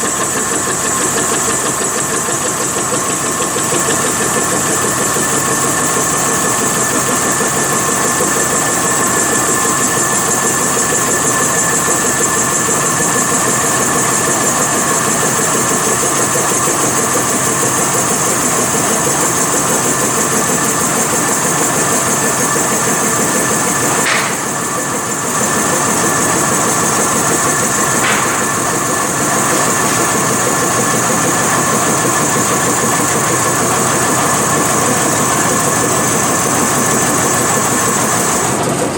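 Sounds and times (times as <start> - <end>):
wood lathe whining: 0.0 - 38.9.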